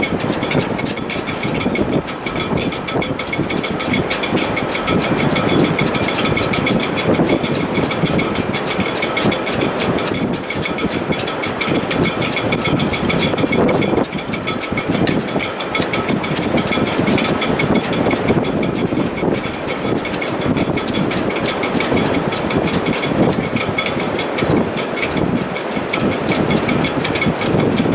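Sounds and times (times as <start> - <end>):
fast even ticking: 0.0 - 27.9
wind rushing in rigging: 0.0 - 27.9.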